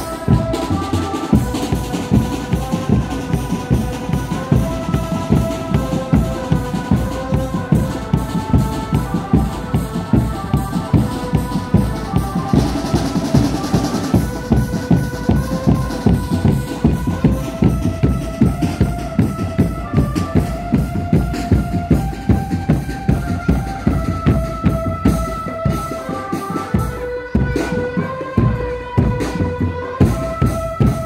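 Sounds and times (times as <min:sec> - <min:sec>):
drums beating fast rhythm: 0:00.0 - 0:31.0.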